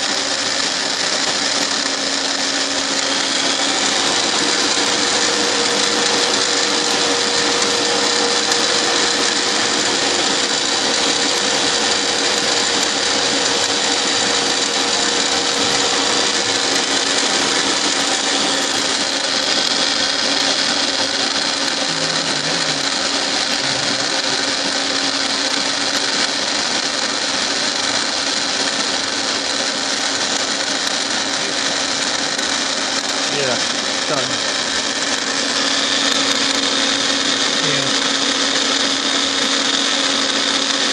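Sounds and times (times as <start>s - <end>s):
constant machine whine: 0.0s - 40.9s
milling machine cutting: 0.0s - 40.9s.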